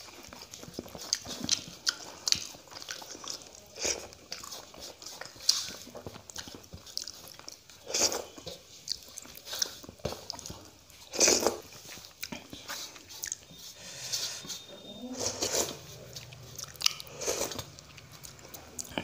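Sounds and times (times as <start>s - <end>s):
chewing and mouth smacking: 0.0s - 13.8s, 14.4s - 19.0s.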